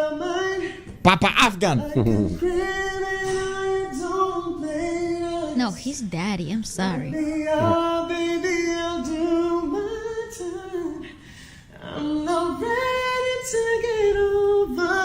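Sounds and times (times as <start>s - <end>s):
solo person singing: 0.0s - 5.7s, 7.1s - 15.0s.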